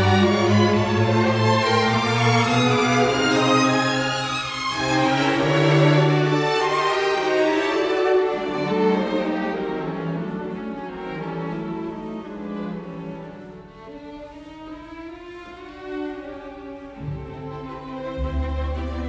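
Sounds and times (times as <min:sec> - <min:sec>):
slow string music: 0:00.0 - 0:19.0.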